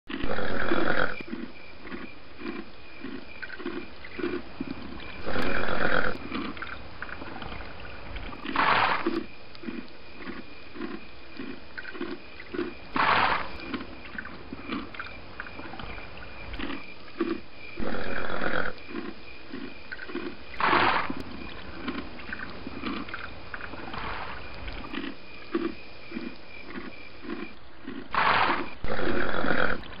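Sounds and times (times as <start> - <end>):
donkeys braying: 0.1 - 30.0.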